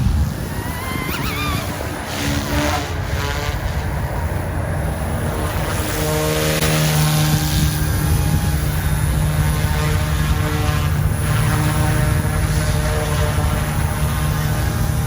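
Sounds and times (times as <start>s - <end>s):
rc helicopter rotors whining: 0.0s - 15.0s.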